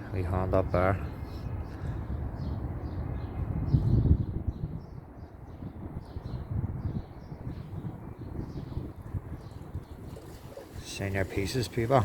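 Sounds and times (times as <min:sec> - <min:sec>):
low rumble on microphone: 0:01.8 - 0:12.0.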